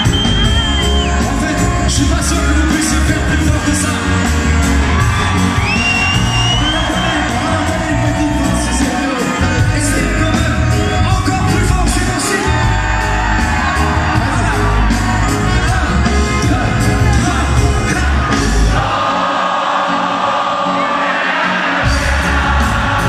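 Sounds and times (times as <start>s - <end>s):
live reggae band: 0.0s - 19.1s, 20.2s - 23.0s
crowd whooping: 0.0s - 23.0s
lead vocals: 0.0s - 23.0s.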